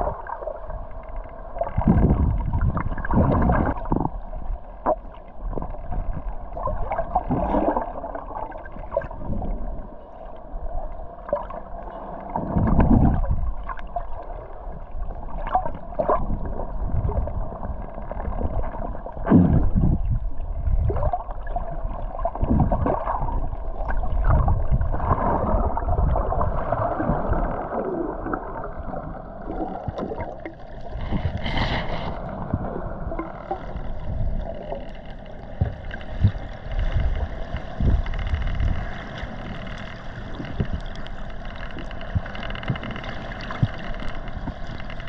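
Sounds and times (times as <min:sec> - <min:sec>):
low rumble: 0:00.0 - 0:45.0
muffled gurgling water: 0:00.0 - 0:45.0.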